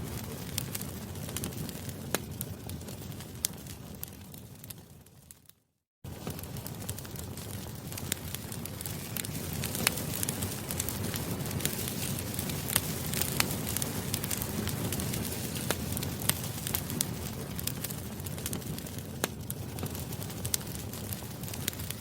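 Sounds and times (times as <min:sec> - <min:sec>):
bonfire burning: 0:00.0 - 0:22.0
wood crackling and popping: 0:00.0 - 0:22.0.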